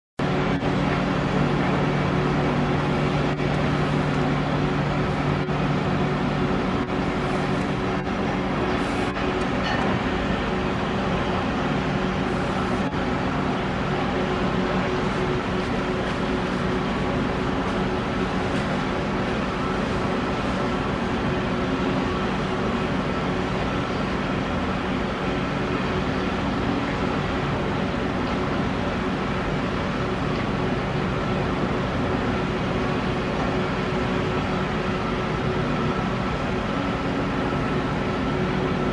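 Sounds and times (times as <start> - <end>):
excavator diesel engine running: 0.2 - 38.9.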